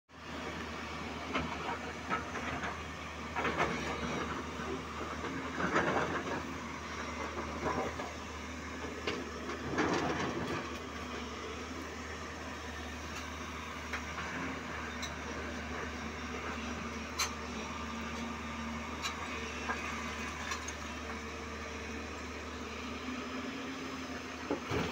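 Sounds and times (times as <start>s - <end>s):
excavator diesel engine running: 0.2s - 24.9s.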